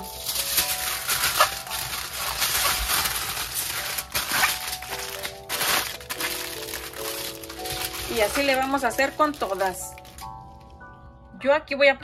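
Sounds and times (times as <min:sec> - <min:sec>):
aluminium foil crinkling: 0:00.0 - 0:10.8
background music with held notes: 0:00.0 - 0:12.0.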